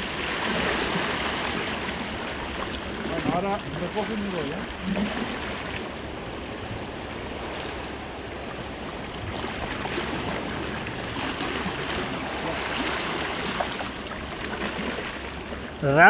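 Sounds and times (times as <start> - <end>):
sea water washing against rocks: 0.0 - 16.0.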